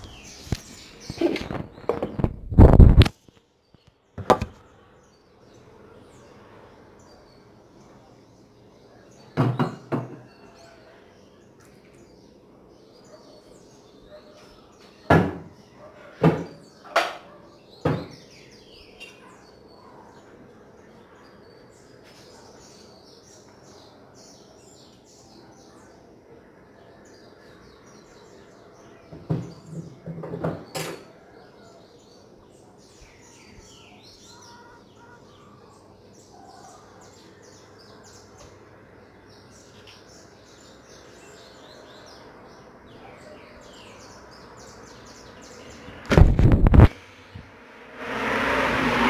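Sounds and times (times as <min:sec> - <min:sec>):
small birds chirping: 0:00.0 - 0:47.6.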